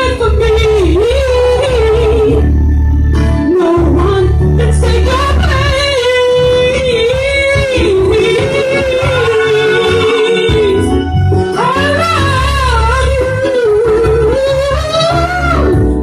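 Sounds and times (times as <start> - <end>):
woman singing into microphone: 0.0 - 2.7, 3.4 - 16.0
low bass accompaniment: 0.0 - 16.0.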